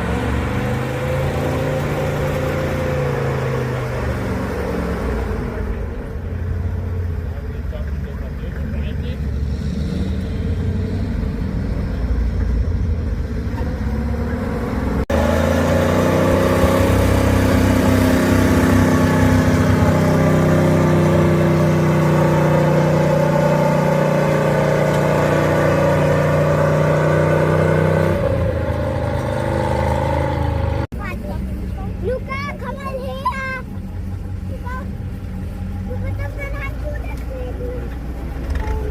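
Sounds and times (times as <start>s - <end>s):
loud close engine steady pitch: 0.0s - 38.9s
truck engines under load: 0.0s - 38.9s.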